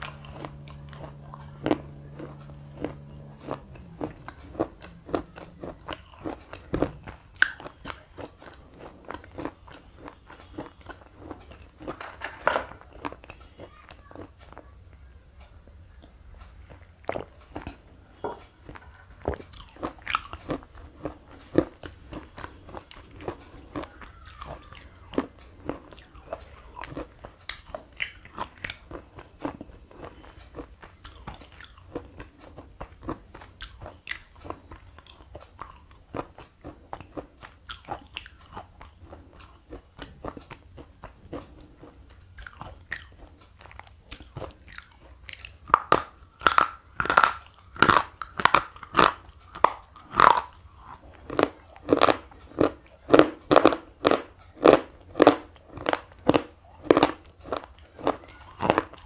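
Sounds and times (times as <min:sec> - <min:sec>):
crunchy chewing: 0:00.0 - 0:14.8, 0:15.9 - 0:59.0.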